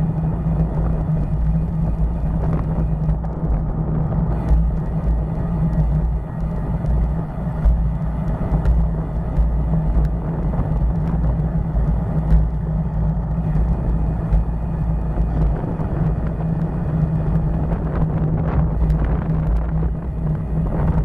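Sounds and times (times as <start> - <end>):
wind and road noise rumble: 0.0 - 21.0.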